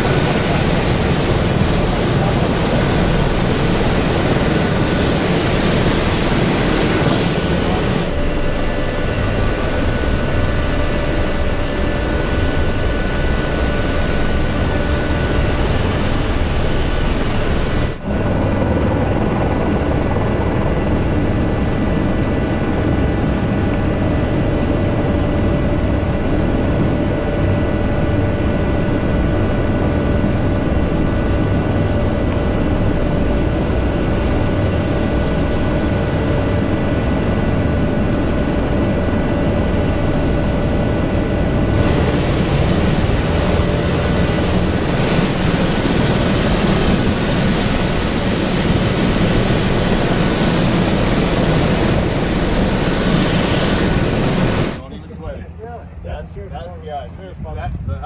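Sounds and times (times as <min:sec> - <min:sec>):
helicopter turbine and rotor running: 0:00.0 - 0:58.0.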